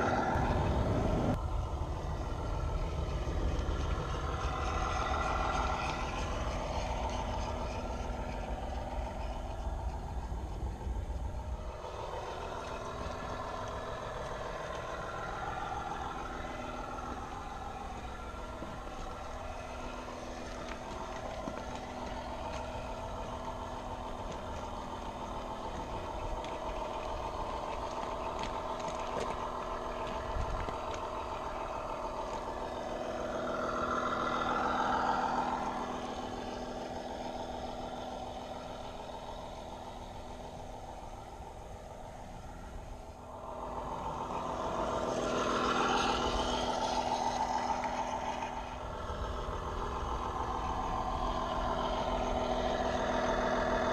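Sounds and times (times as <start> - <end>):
light rattle: 0.0 - 53.9
model train mechanical drone: 0.0 - 53.9.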